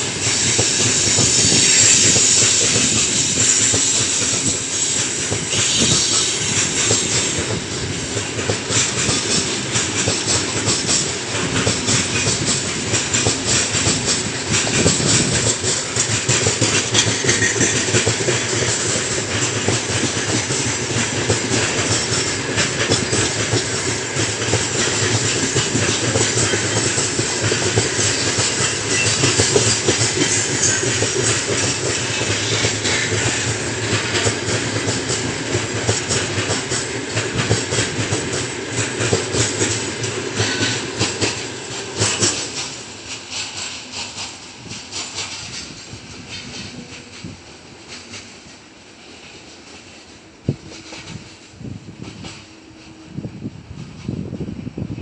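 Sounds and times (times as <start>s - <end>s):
freight train wheels rumbling: 0.0s - 55.0s
wagons clattering over rail joints: 0.1s - 48.5s.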